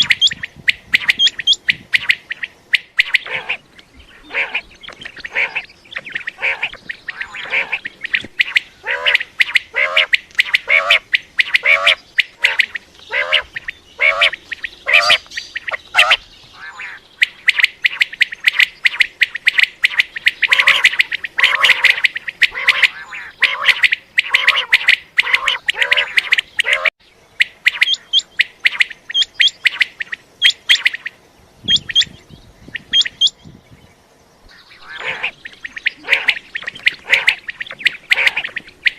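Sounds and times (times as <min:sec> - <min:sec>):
quail calling: 0:00.0 - 0:33.4, 0:34.5 - 0:38.9.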